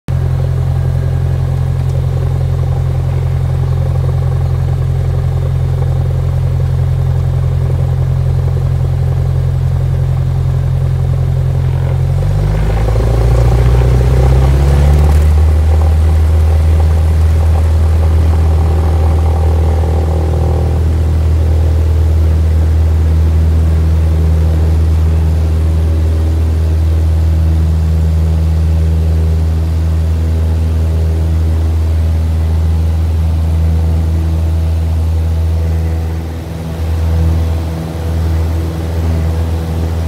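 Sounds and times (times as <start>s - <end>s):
light aircraft engine and propeller: 0.1s - 40.0s.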